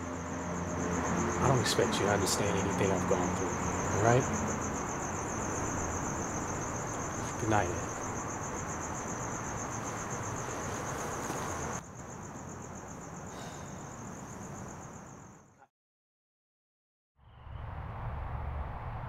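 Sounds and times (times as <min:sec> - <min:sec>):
crickets trilling: 0:00.0 - 0:15.7.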